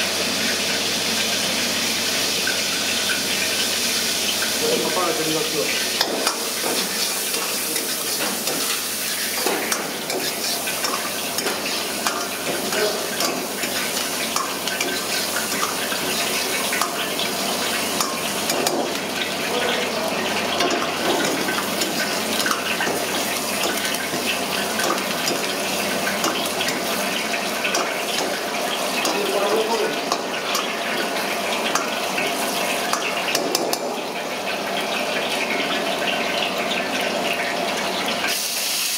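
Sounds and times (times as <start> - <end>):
garlic sizzling in hot oil: 0.0 - 38.9.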